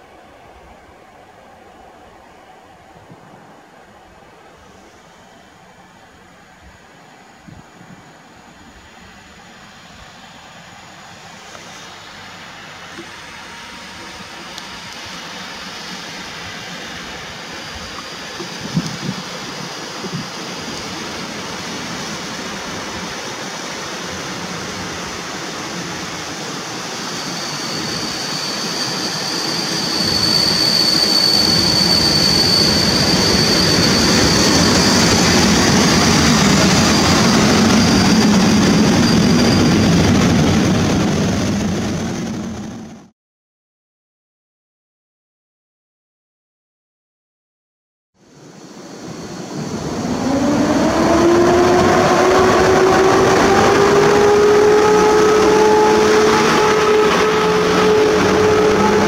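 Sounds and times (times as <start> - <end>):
high steady squeal: 0.0 - 43.1, 48.2 - 59.0
passenger train approaching: 0.0 - 43.1, 48.2 - 59.0.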